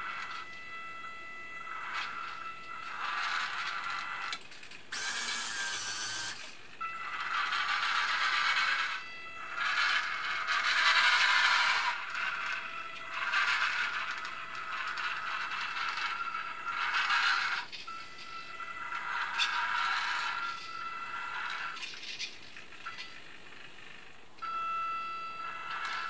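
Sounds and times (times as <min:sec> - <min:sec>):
small electric motors whirring: 0:00.0 - 0:24.6, 0:25.3 - 0:26.0.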